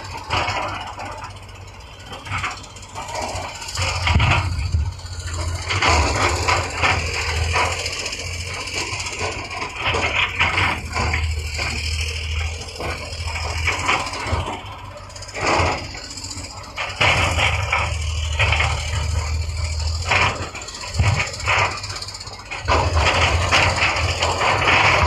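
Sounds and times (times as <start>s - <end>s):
diesel engine running: 0.0s - 25.0s
metallic clanks and knocks: 0.0s - 25.0s.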